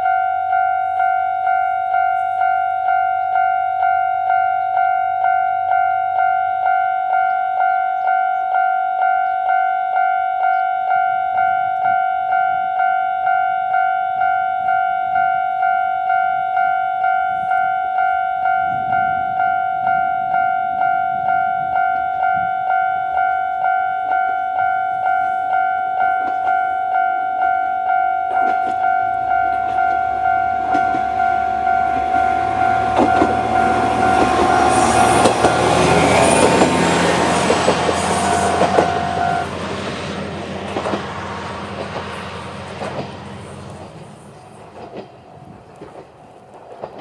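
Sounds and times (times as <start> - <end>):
level crossing alarm clanging: 0.0 - 39.6.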